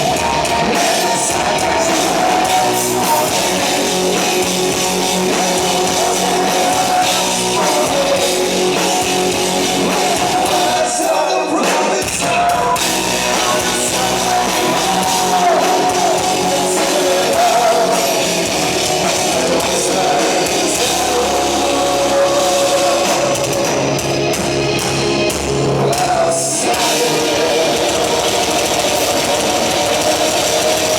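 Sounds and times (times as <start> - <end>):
person singing: 0.0 - 24.1, 25.7 - 30.9
rock band playing: 0.0 - 30.9.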